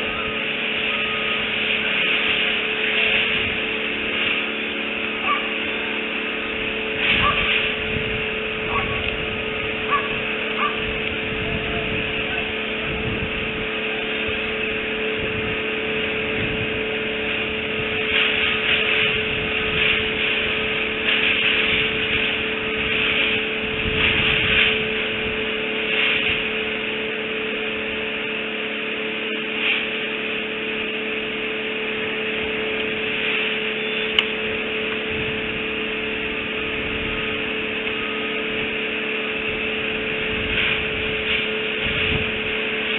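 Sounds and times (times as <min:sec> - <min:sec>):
electrical hum: 0:00.0 - 0:42.9.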